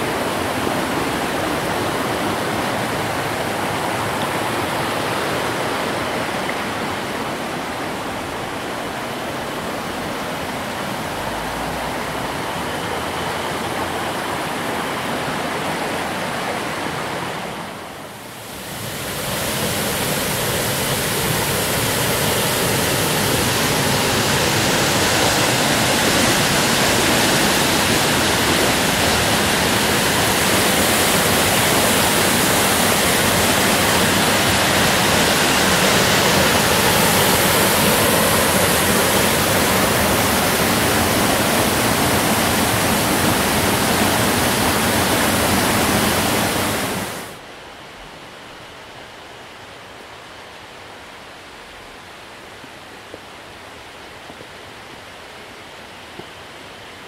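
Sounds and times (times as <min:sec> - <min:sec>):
stream rushing over rapids: 0:00.0 - 0:57.0.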